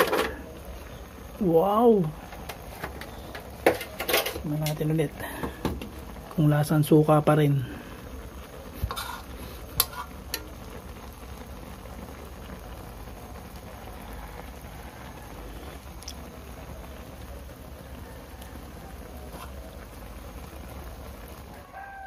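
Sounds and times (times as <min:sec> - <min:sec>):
broth bubbling in a wok: 0:00.0 - 0:22.0.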